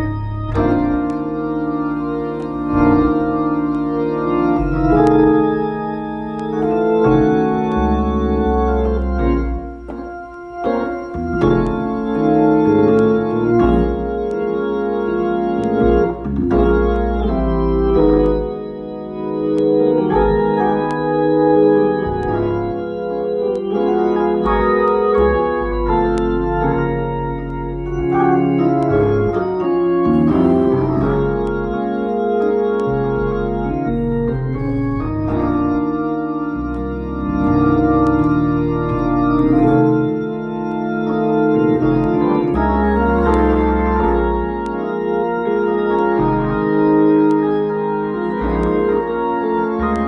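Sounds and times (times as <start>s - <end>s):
low held bass notes: 0.0s - 50.0s
organ chords on keyboard: 0.0s - 50.0s.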